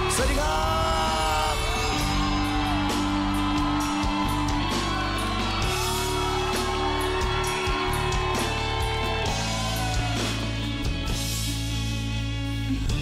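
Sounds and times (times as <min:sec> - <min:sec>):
drum beat with cymbals: 0:00.0 - 0:11.7
band playing pop instrumental: 0:00.0 - 0:13.0.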